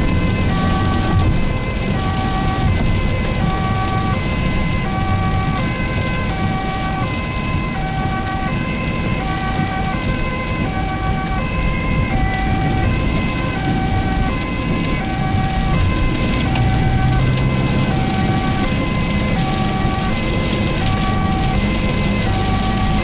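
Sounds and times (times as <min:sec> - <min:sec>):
ambulance two-tone siren: 0:00.0 - 0:23.0
engine and road noise: 0:00.0 - 0:23.0.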